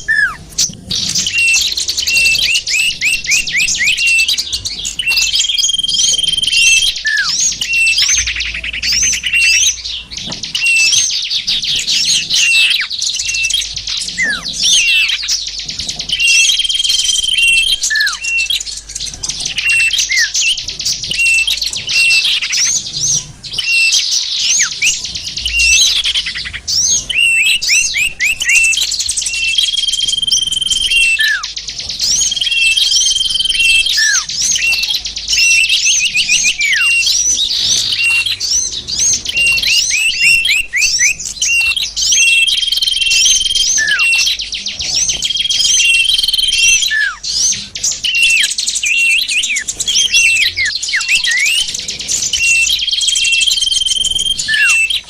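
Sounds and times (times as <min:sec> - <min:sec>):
long steady bird whistle: 0:00.0 - 0:55.0
songbirds chirping and trilling: 0:00.0 - 0:55.0.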